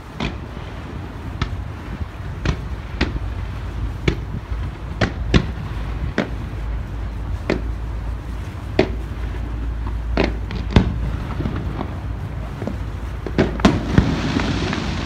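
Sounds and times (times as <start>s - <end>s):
distant fireworks bangs: 0.0s - 15.0s
low rumble: 0.0s - 15.0s.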